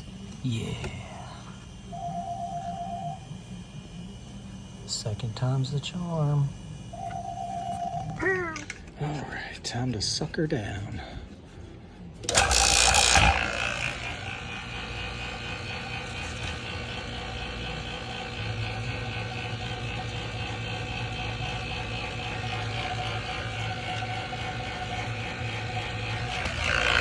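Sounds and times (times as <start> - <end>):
vacuum pump running: 0.0 - 27.0.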